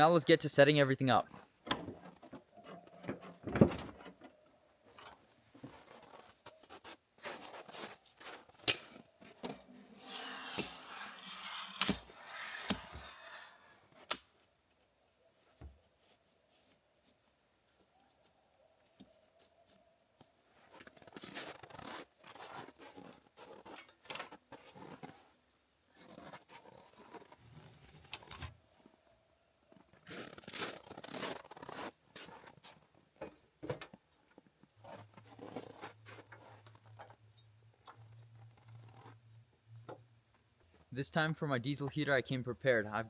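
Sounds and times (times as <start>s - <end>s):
camping gear rustling and scraping: 1.3s - 29.1s, 29.7s - 39.4s.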